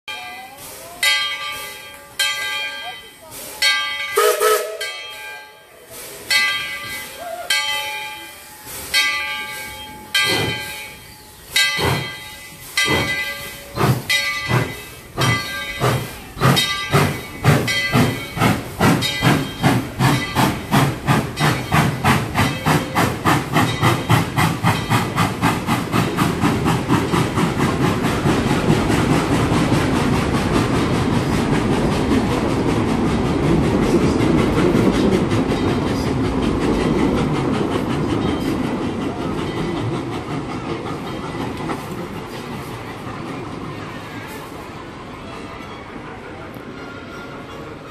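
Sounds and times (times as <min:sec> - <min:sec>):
steam locomotive chuffing: 0:00.2 - 0:45.2.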